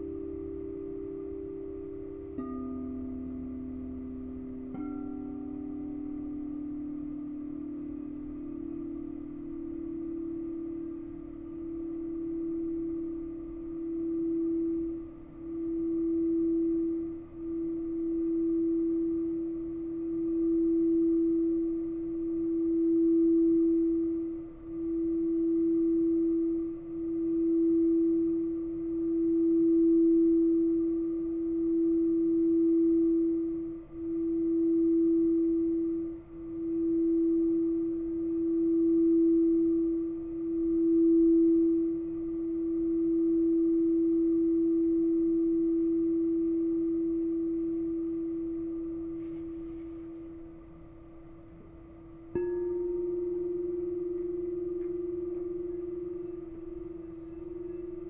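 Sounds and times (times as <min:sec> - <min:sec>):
lower singing bowl tone: 0:00.0 - 0:58.0
singing bowl tone: 0:00.0 - 0:58.0.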